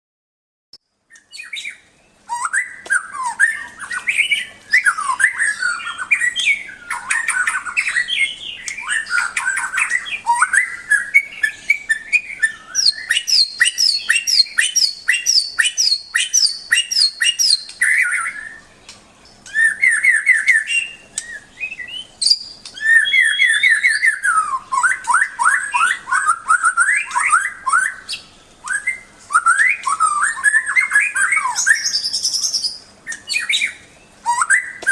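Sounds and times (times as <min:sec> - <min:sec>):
songbird singing varied song: 0:00.8 - 0:34.9.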